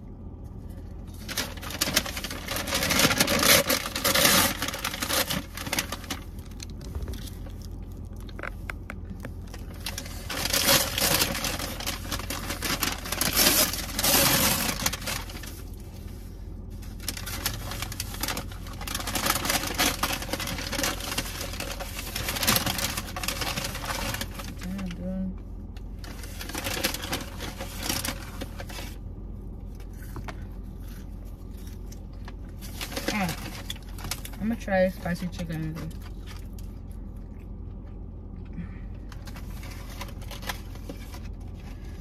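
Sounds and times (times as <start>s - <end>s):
steady low hum: 0.0s - 42.0s
paper bag rustling and crinkling: 0.4s - 25.0s, 25.9s - 36.7s, 39.0s - 42.0s.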